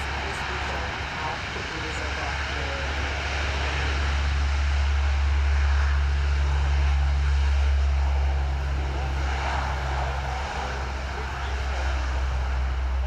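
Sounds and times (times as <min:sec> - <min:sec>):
propeller drone: 0:00.0 - 0:13.0
turbine hiss: 0:00.0 - 0:13.0.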